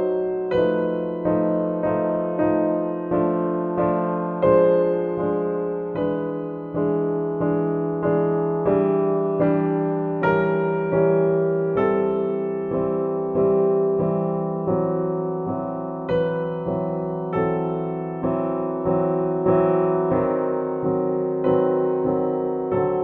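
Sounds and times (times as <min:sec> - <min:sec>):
slow solo piano music: 0:00.0 - 0:23.0.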